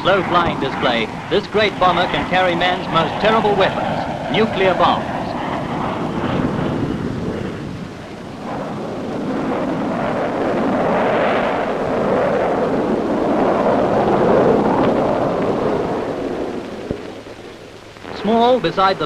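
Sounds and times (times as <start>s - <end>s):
jet bomber flying past: 0.0s - 19.0s.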